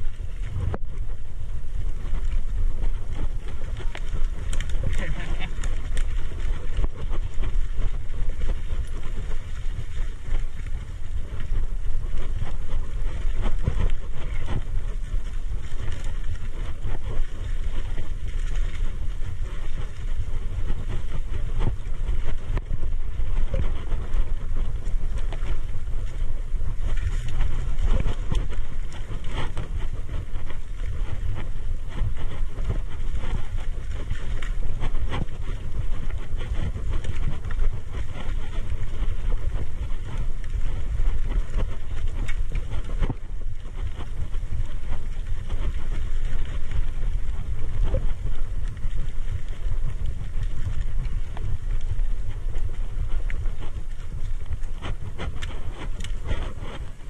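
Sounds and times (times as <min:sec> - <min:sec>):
bike rattling over bumps: 0:00.0 - 0:57.0
tyres rumbling on dirt trail: 0:00.0 - 0:57.0
wind buffeting microphone: 0:00.0 - 0:57.0.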